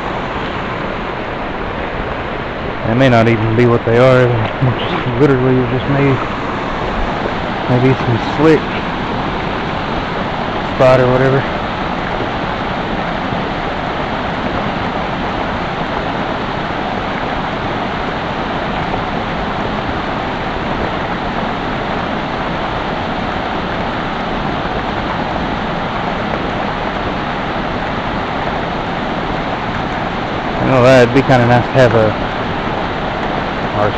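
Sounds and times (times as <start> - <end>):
creek water running: 0.0 - 33.9.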